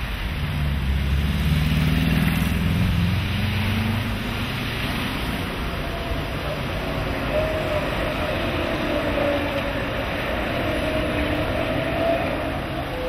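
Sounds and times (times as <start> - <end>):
street traffic noise: 0.0 - 13.0
car driving past: 0.6 - 13.0.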